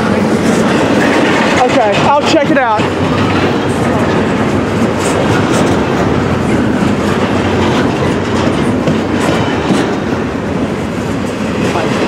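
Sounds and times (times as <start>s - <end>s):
freight train cars rolling past: 0.0s - 12.0s
wheels clacking over rail joints: 0.0s - 12.0s.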